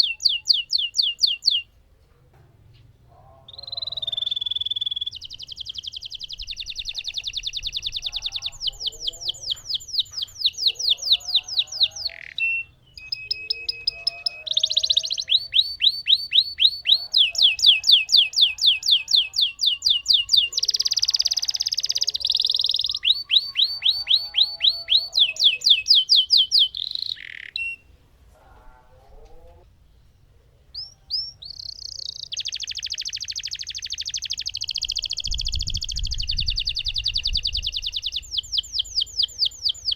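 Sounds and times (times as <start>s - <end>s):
canary singing trills: 0.0s - 1.8s, 2.8s - 39.9s.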